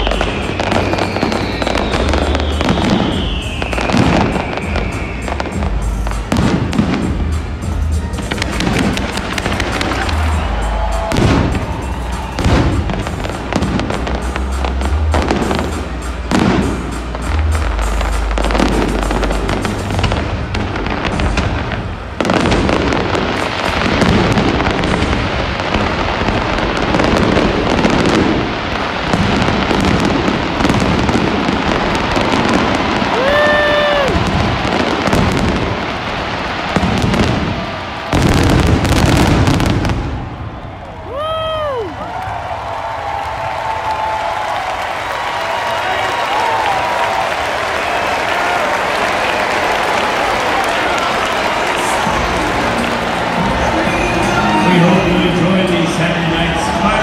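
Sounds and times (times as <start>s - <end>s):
fireworks bursts and booms: 0.0s - 57.0s
music playing: 0.0s - 57.0s.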